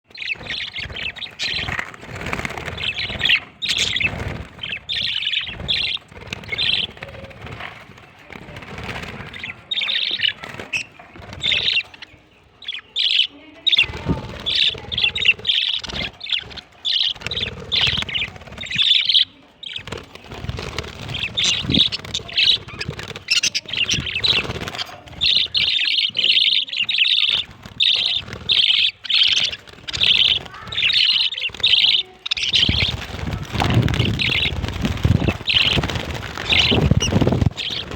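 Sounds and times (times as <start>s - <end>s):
budgerigars chirping: 0.0s - 7.7s, 8.4s - 37.9s.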